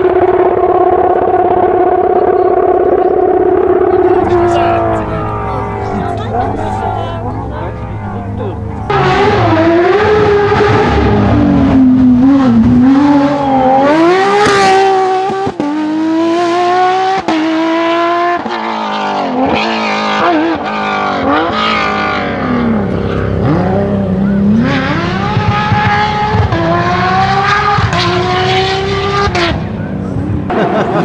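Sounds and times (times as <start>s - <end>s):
rally car engine at high revs: 0.0s - 31.0s.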